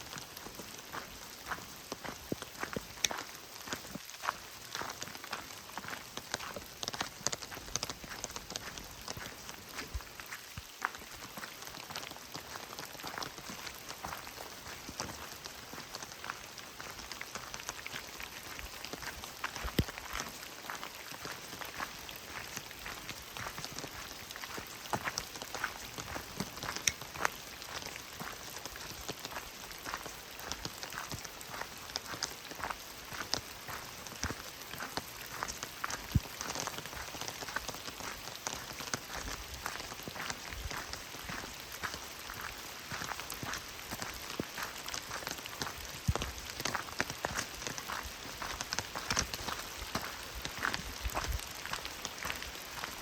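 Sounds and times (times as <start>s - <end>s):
steady hiss of rainfall: 0.0s - 53.0s
raindrops tapping: 4.9s - 53.0s.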